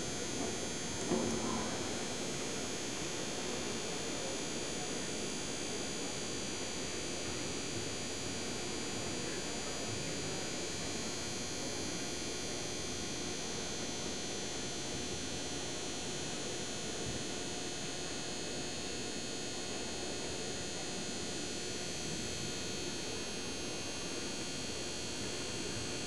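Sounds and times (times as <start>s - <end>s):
murmur of spectators: 0.0s - 26.0s.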